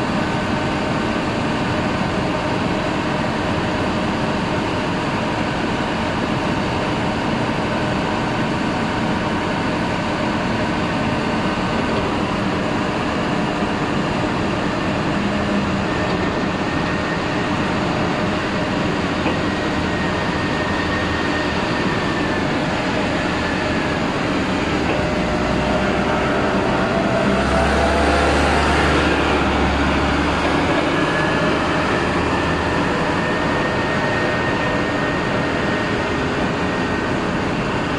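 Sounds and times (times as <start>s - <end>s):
forklift running with whine: 0.0s - 37.9s.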